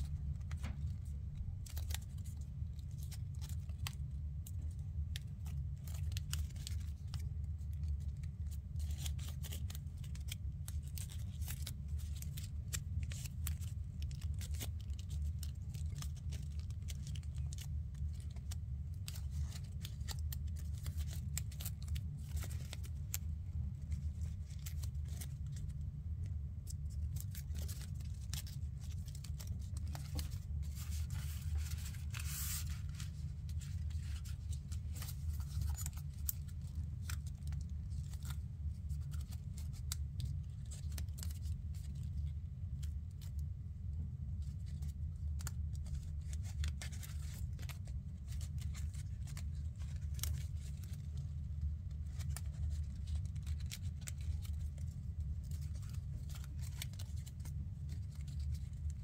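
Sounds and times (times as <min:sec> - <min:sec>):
stiff paper crinkling: 0:00.0 - 0:43.4, 0:44.3 - 0:59.0
steady low hum: 0:00.0 - 0:59.0.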